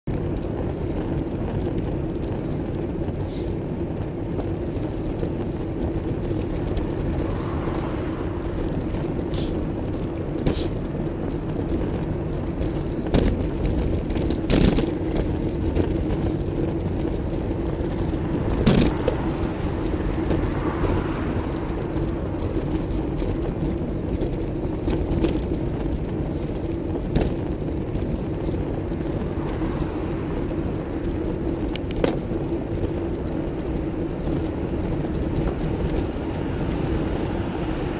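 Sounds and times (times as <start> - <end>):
bike tyre rumble: 0.0 - 37.9
bike knocking and rattling: 0.1 - 37.9
wind noise: 0.1 - 37.9
motor traffic passing: 2.5 - 37.9.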